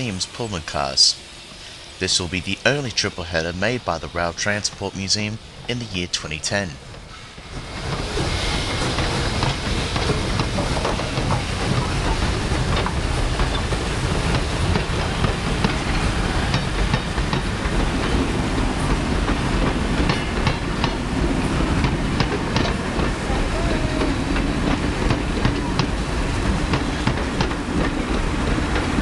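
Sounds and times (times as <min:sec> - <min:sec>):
steam train rumbling past: 0:00.0 - 0:29.0.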